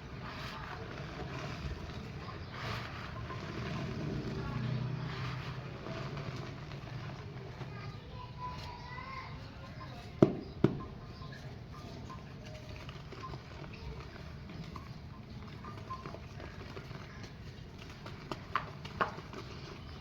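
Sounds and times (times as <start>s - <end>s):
clay pots cracking: 0.0s - 20.0s.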